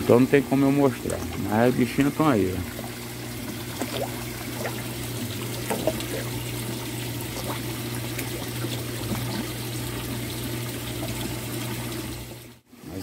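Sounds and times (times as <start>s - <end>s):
low steady hum: 0.0s - 13.0s
water splashing into fish tank: 0.6s - 12.0s
bubbles and drips: 0.8s - 12.4s.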